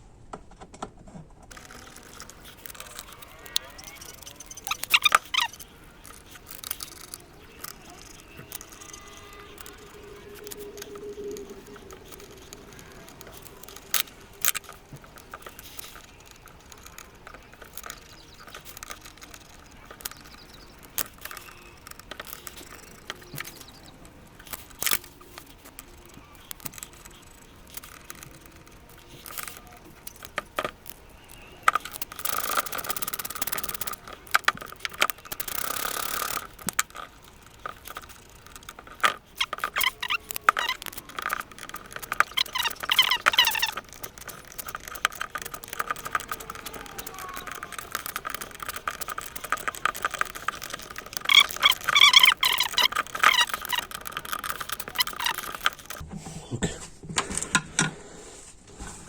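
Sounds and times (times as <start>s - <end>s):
small metal parts clicking: 1.5s - 56.0s.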